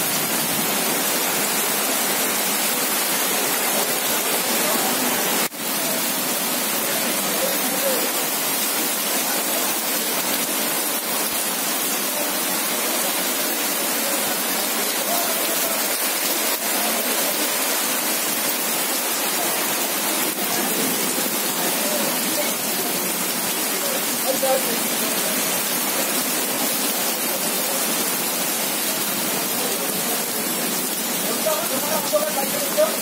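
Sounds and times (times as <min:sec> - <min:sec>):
heavy rain on wet paving: 0:00.0 - 0:33.0.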